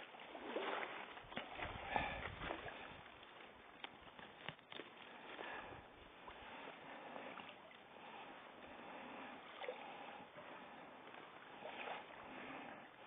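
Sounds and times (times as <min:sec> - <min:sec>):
faint water noise: 0:00.0 - 0:13.0.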